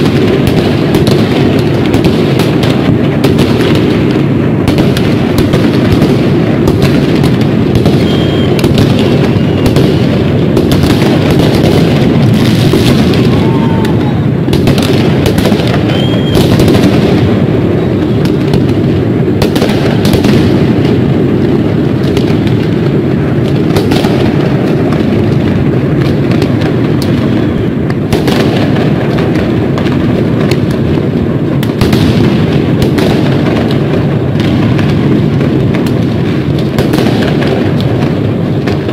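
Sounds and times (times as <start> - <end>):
fireworks bangs and booms: 0.0 - 38.9.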